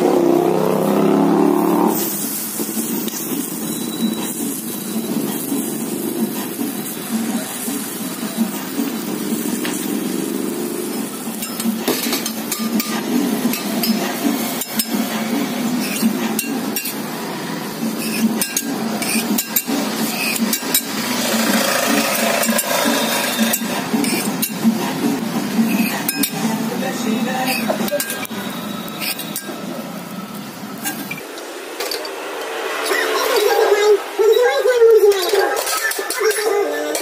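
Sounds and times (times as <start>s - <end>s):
food sizzling: 0.0s - 37.0s.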